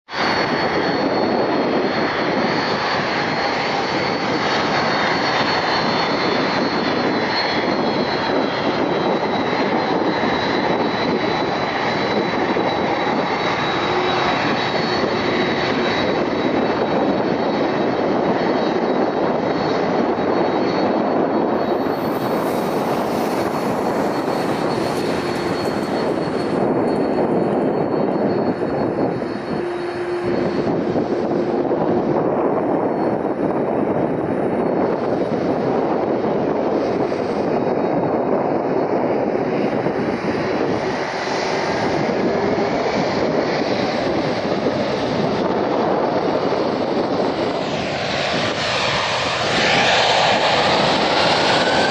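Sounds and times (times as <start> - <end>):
jet engines at takeoff power: 0.1 - 51.9.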